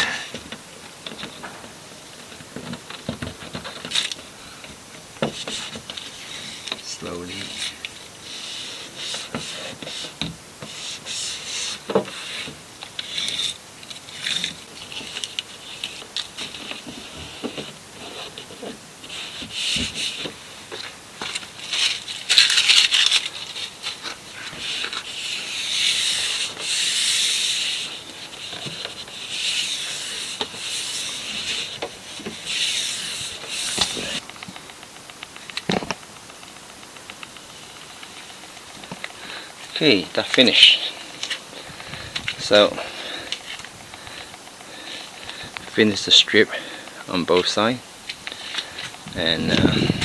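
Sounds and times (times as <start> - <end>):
backing liner peeling hiss: 0.0 - 50.0
rubbing and scraping vinyl: 0.0 - 50.0.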